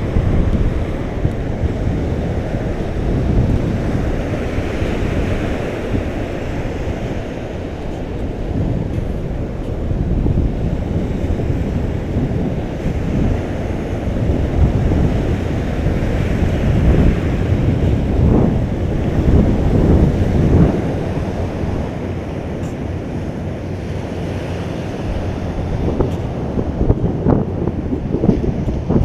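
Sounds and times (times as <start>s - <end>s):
surf on a beach: 0.0s - 29.0s
wind buffeting microphone: 0.0s - 29.0s.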